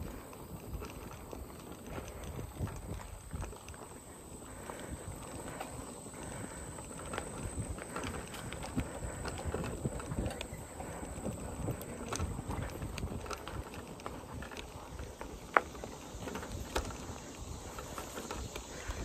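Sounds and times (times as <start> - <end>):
bicycle tyres crunching: 0.0 - 19.0.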